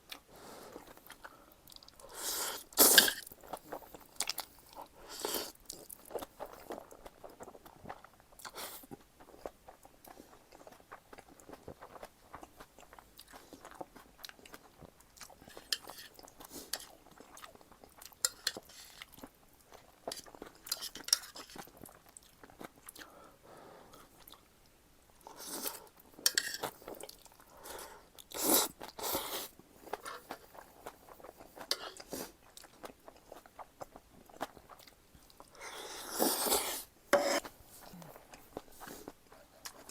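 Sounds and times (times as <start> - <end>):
person chewing noodles: 0.0 - 24.5, 25.2 - 39.9.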